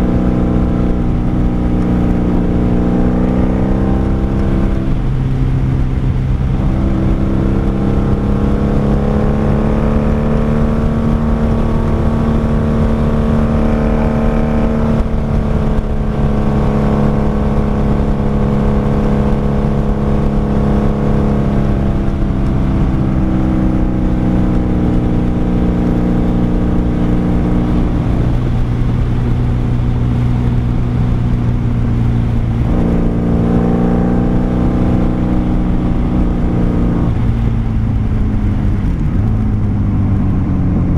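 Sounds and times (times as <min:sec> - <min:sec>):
low rushing noise: 0:00.0 - 0:40.9
motorcycle engine running: 0:00.0 - 0:40.9.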